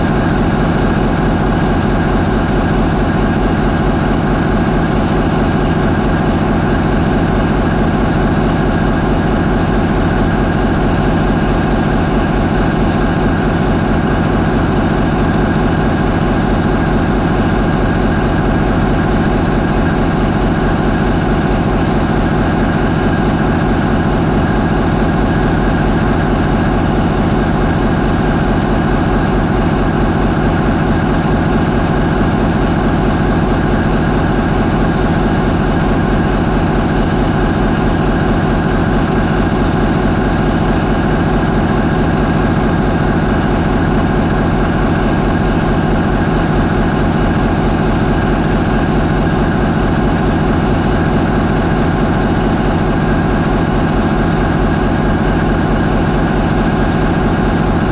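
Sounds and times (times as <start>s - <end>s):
diesel marine engine running: 0.0s - 57.9s.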